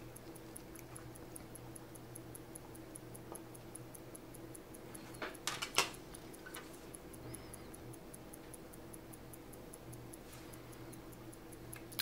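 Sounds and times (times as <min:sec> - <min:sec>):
low electrical hum: 0:00.0 - 0:12.0
watch ticking: 0:00.0 - 0:12.0.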